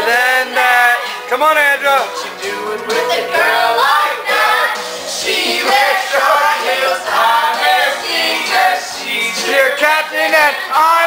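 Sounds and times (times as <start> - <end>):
several voices singing: 0.0 - 1.3, 2.0 - 11.0
music: 0.0 - 11.0.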